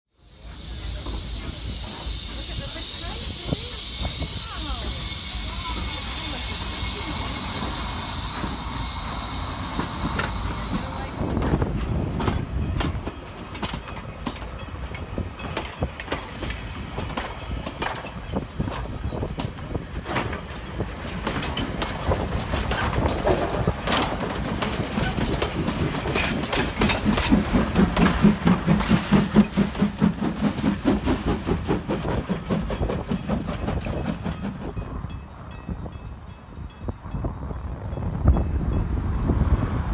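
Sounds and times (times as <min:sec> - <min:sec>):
steam locomotive hissing steam: 0:00.1 - 0:35.2
rhythmic beating of moving train: 0:00.1 - 0:39.9
train wheels clicking over rail joints: 0:00.3 - 0:36.0.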